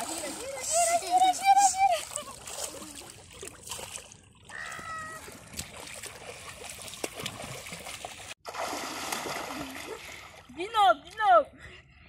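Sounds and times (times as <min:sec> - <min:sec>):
river water splashing: 0:00.0 - 0:11.2.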